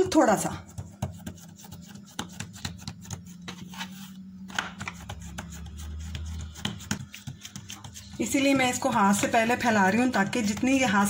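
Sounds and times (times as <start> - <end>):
hands patting dough: 0.0 - 3.8, 4.5 - 11.0.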